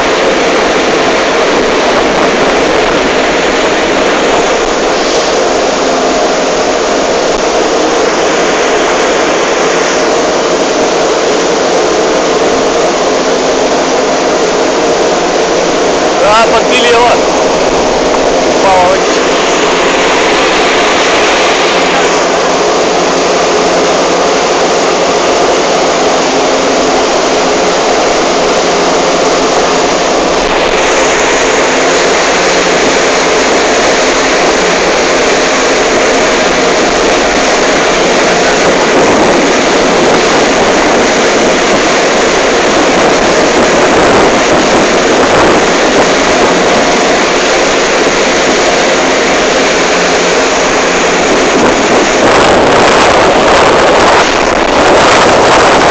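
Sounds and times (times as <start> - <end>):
motorboat engine running: 0.0 - 55.9
water rushing over hull: 0.0 - 55.9.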